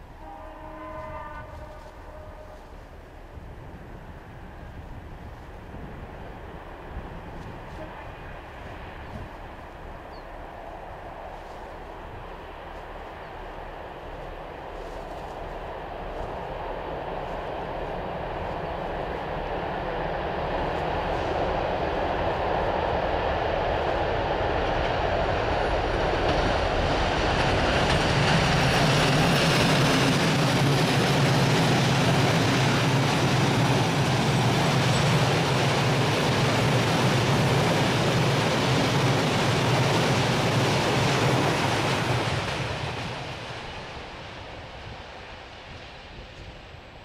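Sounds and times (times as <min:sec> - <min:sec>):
locomotive engine drone: 0:00.0 - 0:47.0
train wheels rolling: 0:00.0 - 0:47.0.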